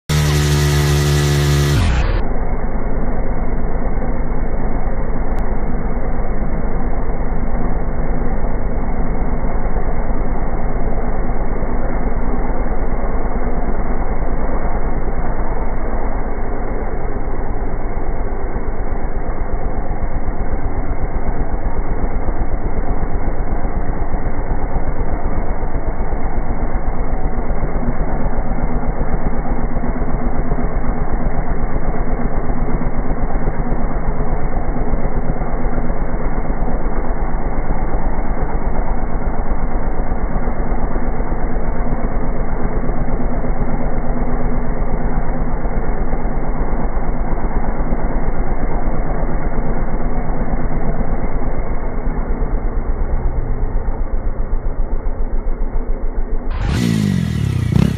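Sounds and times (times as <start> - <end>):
small motorcycle engine running: 0.0 - 57.9.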